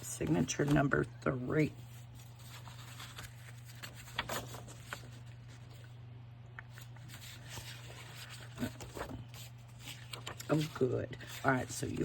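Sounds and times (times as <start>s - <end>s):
paper shuffling: 0.0s - 6.0s, 6.6s - 12.0s
steady low hum: 0.0s - 12.0s.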